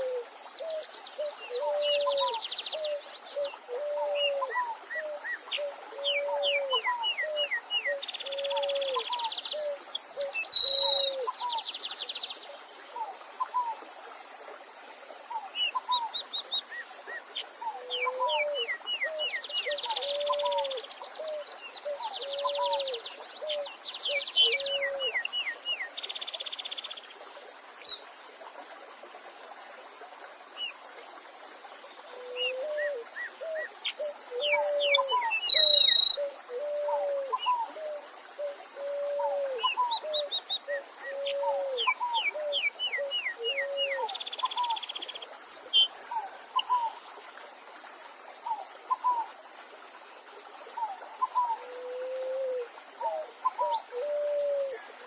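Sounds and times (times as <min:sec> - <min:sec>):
wild birds calling and singing: 0:00.0 - 0:13.8, 0:15.3 - 0:27.0, 0:32.0 - 0:47.2, 0:50.7 - 0:55.0
stream hissing: 0:00.0 - 0:55.0.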